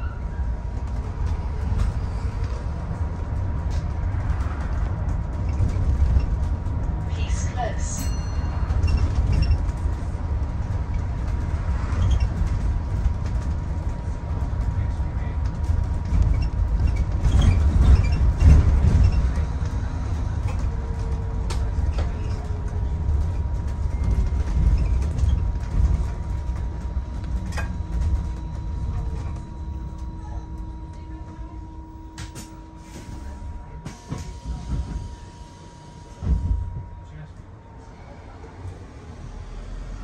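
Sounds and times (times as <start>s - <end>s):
bus rumbling along road: 0.0s - 40.0s.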